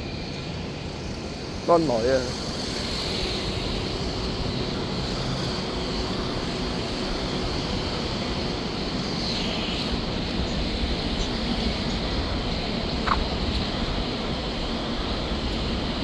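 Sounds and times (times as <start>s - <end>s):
street traffic rumble: 0.1s - 16.0s.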